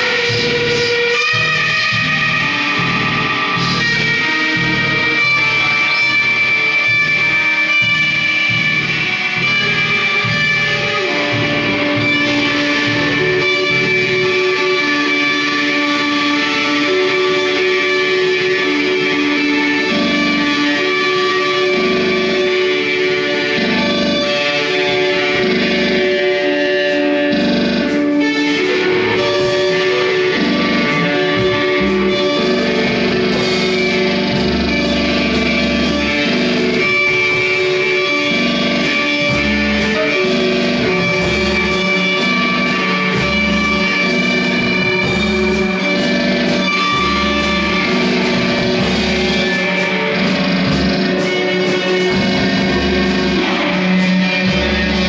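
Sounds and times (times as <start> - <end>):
droning electric guitar noise music: 0.0 - 55.0.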